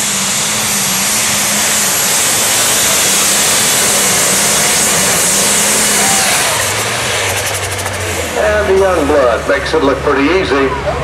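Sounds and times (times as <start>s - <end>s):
tractor engine running flat out: 0.0s - 11.0s.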